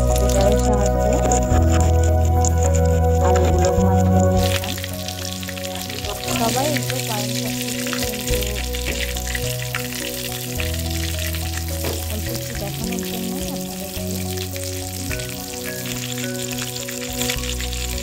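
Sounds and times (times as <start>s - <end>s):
background music: 0.0s - 18.0s
food deep-frying in hot oil: 0.0s - 18.0s.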